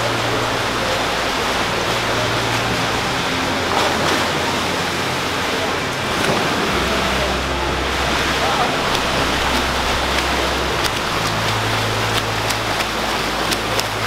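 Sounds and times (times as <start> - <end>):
low hum: 0.0 - 14.0
swimmers splashing: 0.0 - 14.0.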